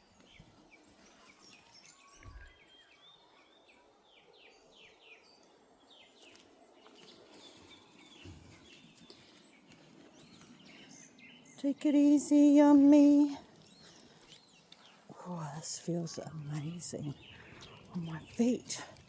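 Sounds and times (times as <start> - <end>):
faint birdsong chirping: 0.0 - 19.0.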